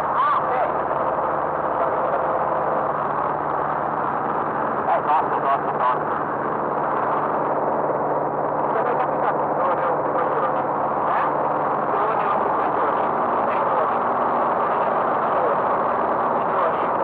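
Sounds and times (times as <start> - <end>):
light aircraft engine drone: 0.0 - 17.0.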